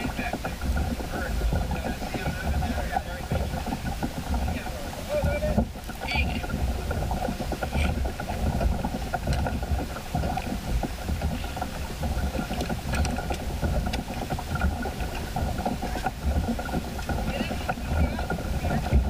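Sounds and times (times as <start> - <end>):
low uneven rumble: 0.0 - 19.0.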